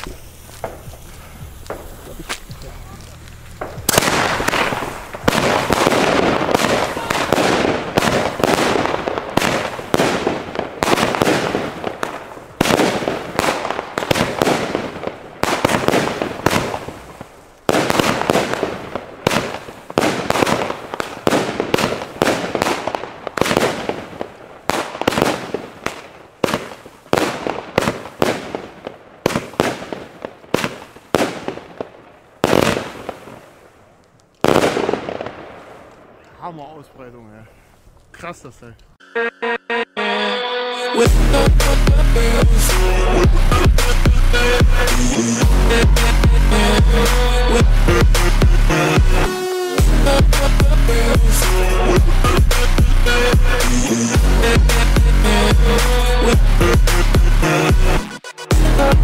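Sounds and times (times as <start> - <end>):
firework battery firing: 0.0 - 36.2, 41.1 - 59.0
firework crackling: 0.0 - 39.3, 40.0 - 59.0.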